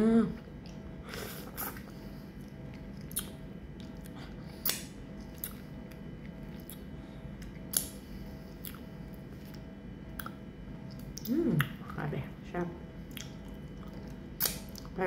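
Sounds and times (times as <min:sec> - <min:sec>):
steady low hum: 0:00.0 - 0:15.0
wet eating smacks: 0:00.6 - 0:08.0, 0:08.6 - 0:11.9, 0:13.1 - 0:15.0.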